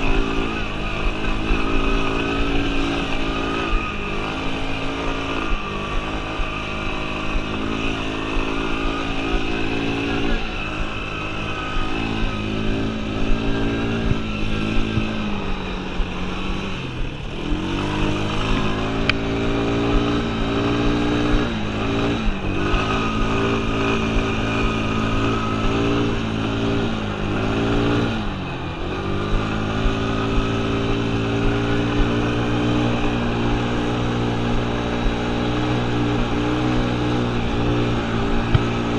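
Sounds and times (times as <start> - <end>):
quad bike engine revving: 0.0 - 38.9.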